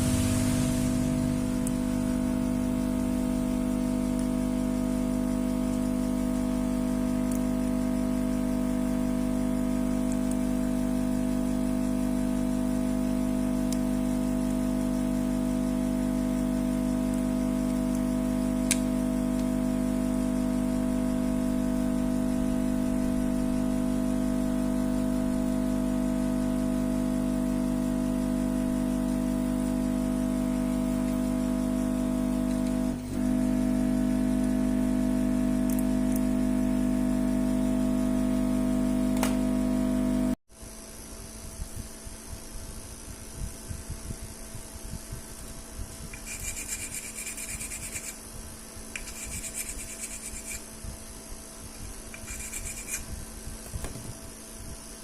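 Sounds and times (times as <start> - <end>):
hum of held tones: 0.0 - 55.0.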